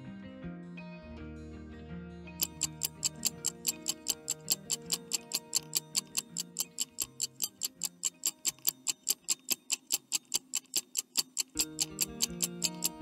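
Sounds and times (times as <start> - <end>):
soft background music: 0.0 - 9.3, 11.5 - 13.0
stopwatch ticking: 2.4 - 13.0.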